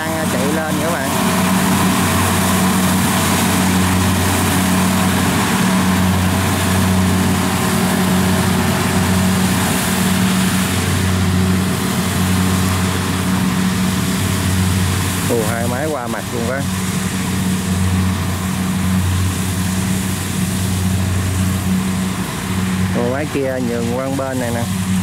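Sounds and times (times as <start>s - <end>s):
combine harvester diesel drone: 0.0s - 25.0s.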